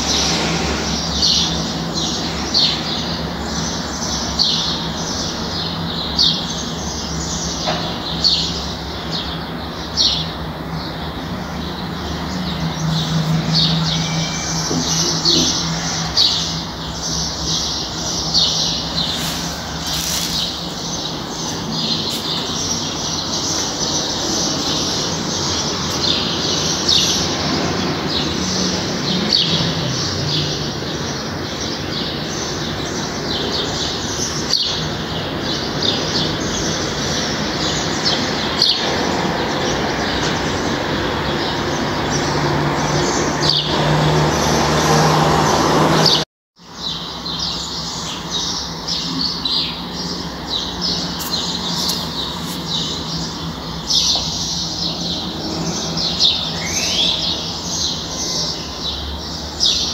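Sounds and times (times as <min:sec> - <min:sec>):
small birds chirping: 0:00.0 - 0:43.9, 0:46.0 - 0:59.9.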